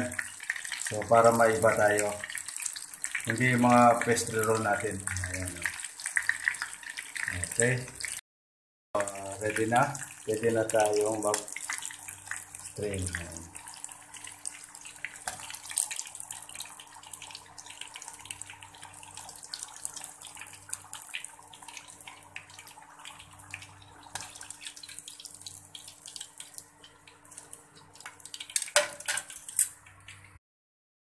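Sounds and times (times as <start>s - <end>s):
spring rolls sizzling in oil: 0.0s - 8.2s, 9.0s - 30.3s.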